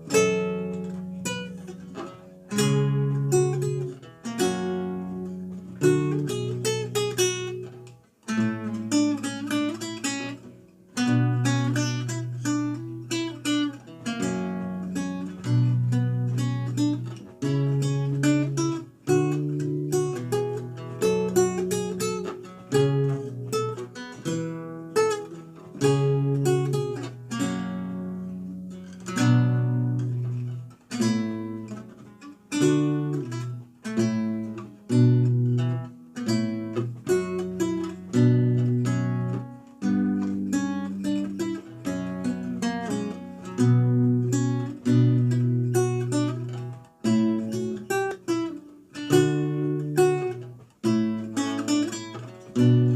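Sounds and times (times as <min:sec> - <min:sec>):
solo lute playing: 0:00.0 - 0:52.9.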